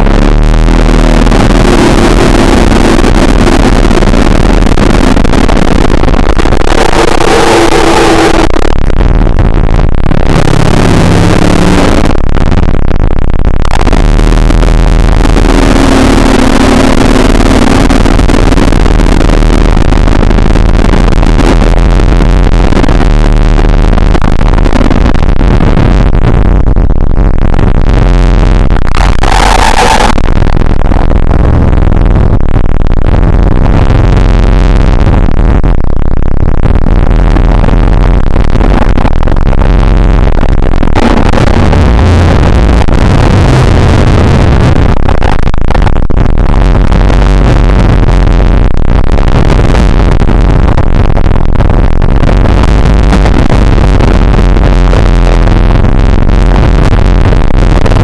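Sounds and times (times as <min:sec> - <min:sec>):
distorted droning noise: 0:00.0 - 0:58.0.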